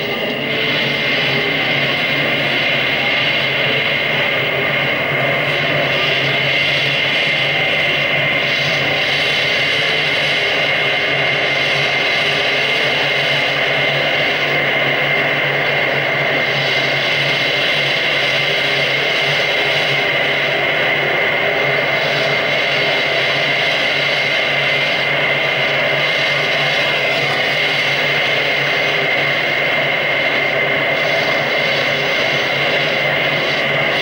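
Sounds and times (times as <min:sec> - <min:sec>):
electronic drone over noise: 0:00.0 - 0:34.0.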